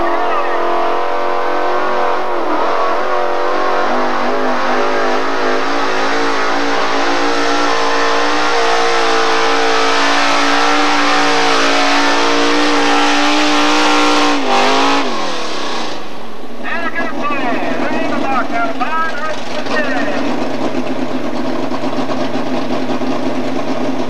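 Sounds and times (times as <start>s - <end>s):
truck engine running hard: 0.0s - 24.0s.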